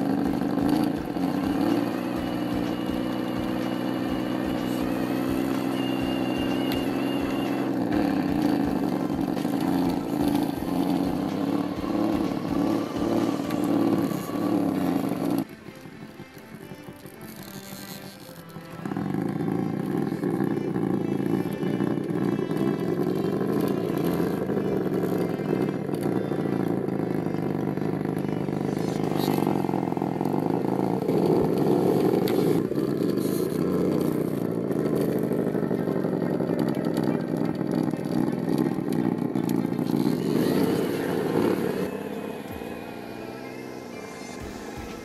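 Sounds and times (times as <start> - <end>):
toy car electric motor whirring: 0.0 - 45.0.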